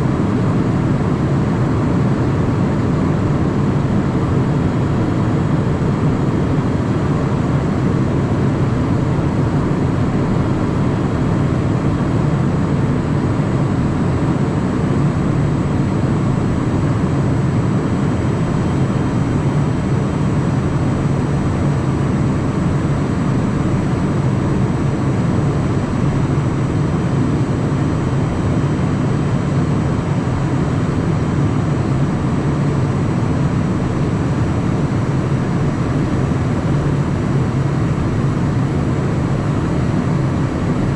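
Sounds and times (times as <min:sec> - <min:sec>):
jet cockpit engine drone: 0:00.0 - 0:40.9.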